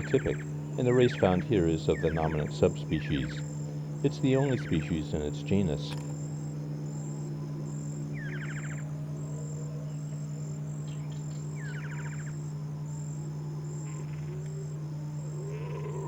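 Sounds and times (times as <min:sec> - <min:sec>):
insect chirping: 0:00.0 - 0:16.0
steady low hum: 0:00.0 - 0:16.0.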